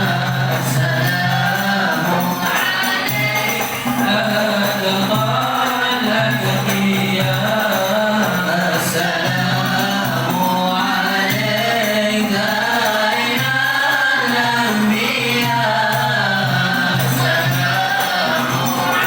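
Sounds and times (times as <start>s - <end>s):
group singing in unison: 0.0s - 19.0s.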